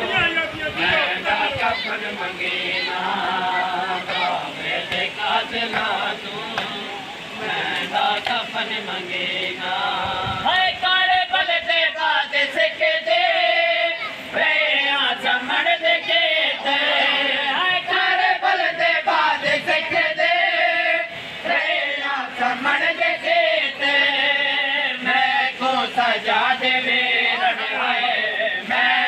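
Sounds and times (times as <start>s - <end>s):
men chanting in unison: 0.0s - 29.0s.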